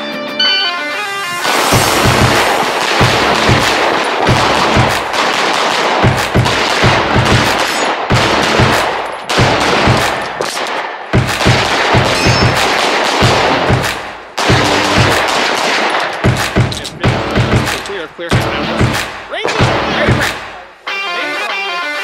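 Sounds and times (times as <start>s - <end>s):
pistol firing rapid shots: 1.5s - 18.0s, 18.8s - 20.6s.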